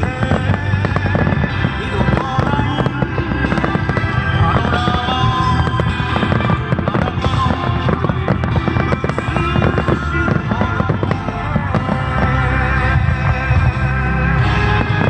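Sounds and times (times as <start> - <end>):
fireworks bangs and crackles: 0.0 - 15.0
loud music: 0.0 - 15.0.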